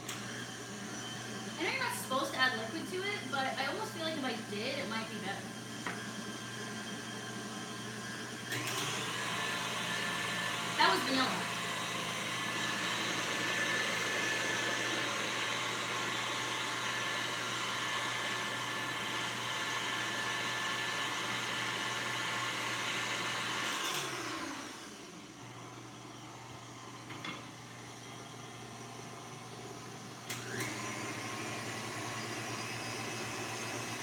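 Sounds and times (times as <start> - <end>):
stand mixer whipping cream: 0.0 - 34.0.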